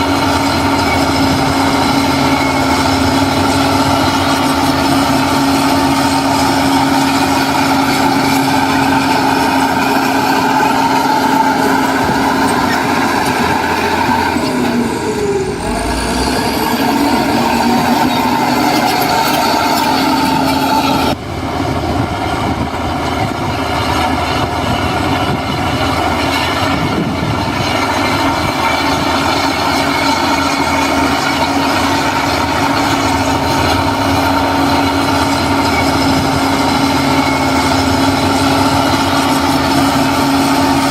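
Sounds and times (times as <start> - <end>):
heavy diesel machinery engine: 0.0 - 40.9.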